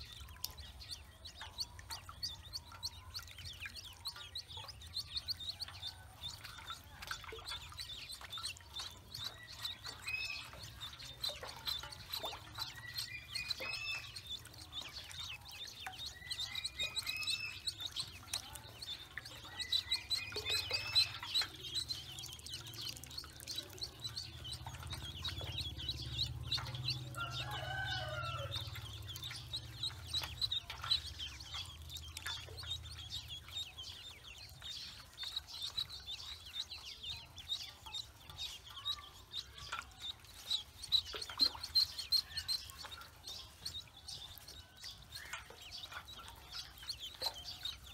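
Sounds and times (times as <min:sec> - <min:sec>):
ducklings peeping: 0:00.0 - 0:47.9
splashing in water: 0:00.0 - 0:47.9.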